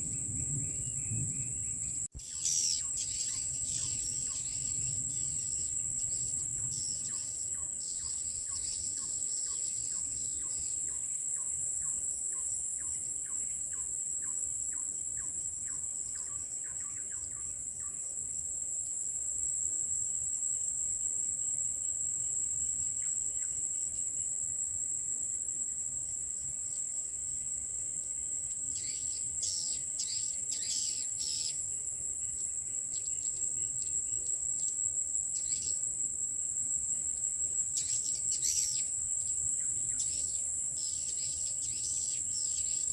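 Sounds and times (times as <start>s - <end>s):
high-pitched insect drone: 0.0s - 18.0s, 26.2s - 42.9s.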